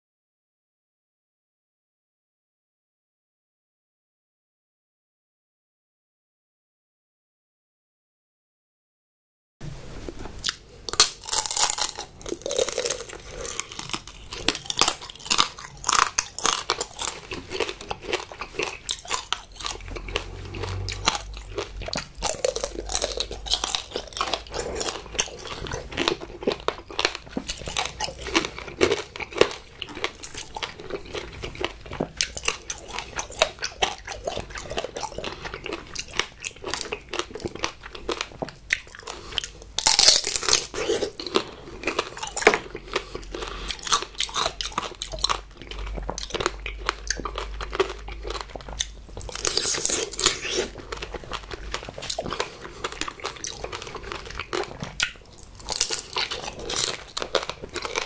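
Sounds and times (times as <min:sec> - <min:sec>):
sugar coating crunching: 0:10.9 - 0:58.0.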